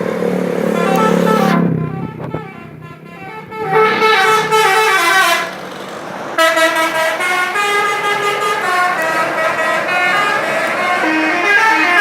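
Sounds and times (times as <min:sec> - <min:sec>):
multi-tone musical bus horn: 0:00.0 - 0:12.0.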